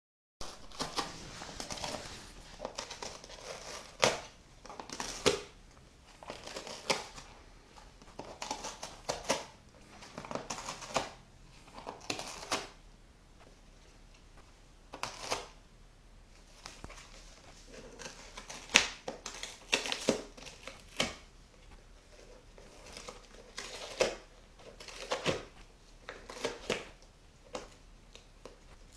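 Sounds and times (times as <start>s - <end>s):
cat tearing cardboard: 0.4s - 12.8s, 14.9s - 15.6s, 16.4s - 28.9s.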